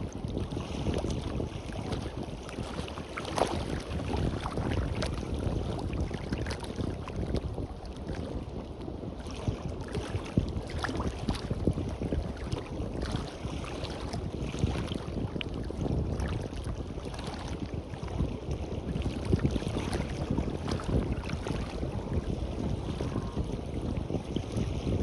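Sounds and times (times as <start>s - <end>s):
waves washing on beach: 0.0s - 25.0s
wind buffeting microphone: 0.0s - 25.0s.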